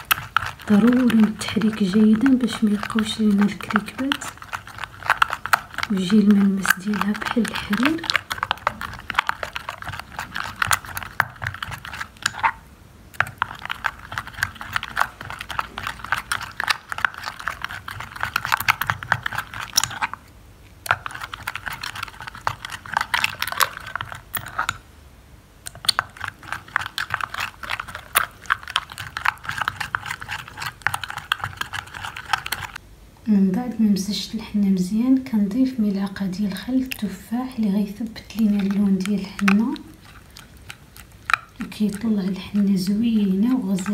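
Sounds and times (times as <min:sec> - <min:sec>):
spatula stirring paste in glass bowl: 0:00.0 - 0:24.8, 0:25.7 - 0:32.8, 0:35.8 - 0:43.9.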